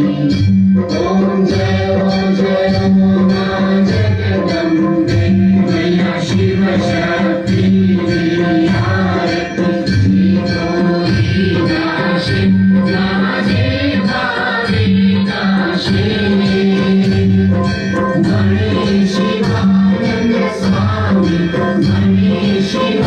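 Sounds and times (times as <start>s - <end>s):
many voices singing together: 0.0s - 23.0s
rhythmic jingling percussion: 0.0s - 23.0s.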